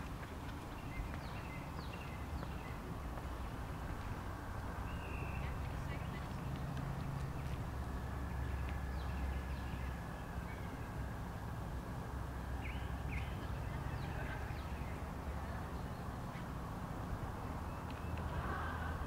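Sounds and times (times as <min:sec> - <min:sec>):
birds chirping: 0:00.0 - 0:11.1, 0:12.4 - 0:16.6, 0:17.3 - 0:19.0.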